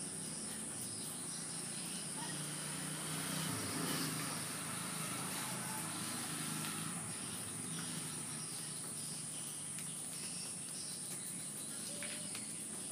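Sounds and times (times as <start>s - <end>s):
insects droning: 0.0s - 12.9s.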